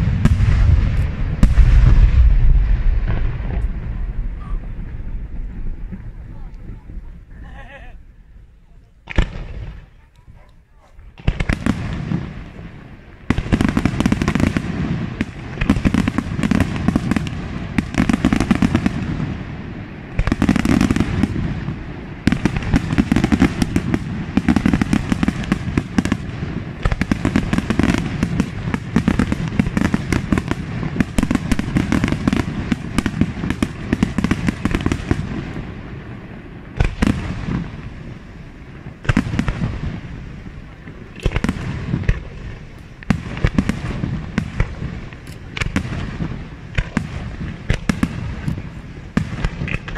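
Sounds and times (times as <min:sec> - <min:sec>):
fireworks bursting and crackling: 0:00.0 - 0:49.9
sharp firework reports: 0:00.0 - 0:49.9.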